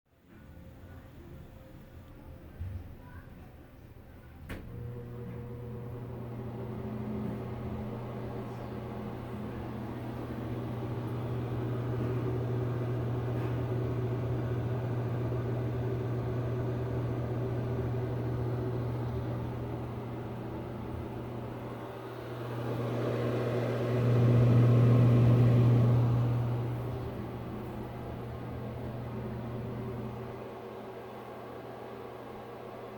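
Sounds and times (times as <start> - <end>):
exhaust fan humming: 4.5 - 32.9.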